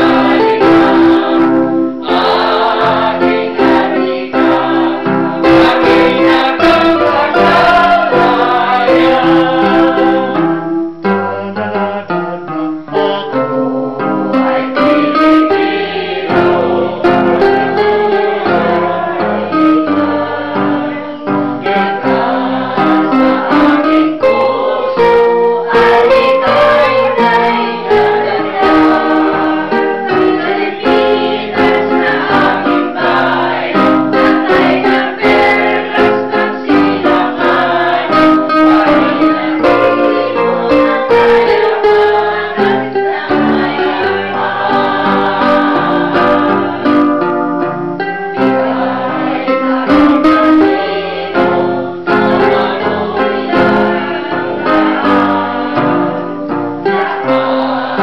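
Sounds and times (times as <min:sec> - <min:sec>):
women's choir singing: 0:00.0 - 0:12.1, 0:12.9 - 0:58.0.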